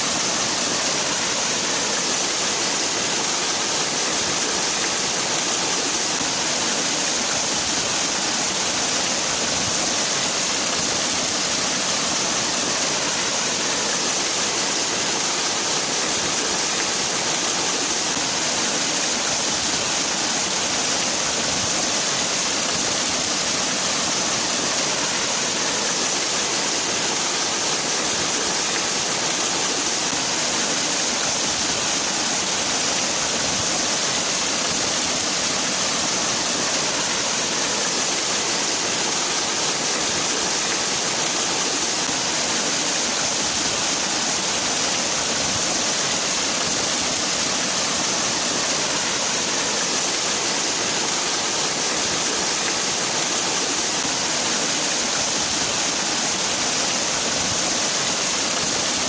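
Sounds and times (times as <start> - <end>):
water falling and splashing: 0.0 - 59.0.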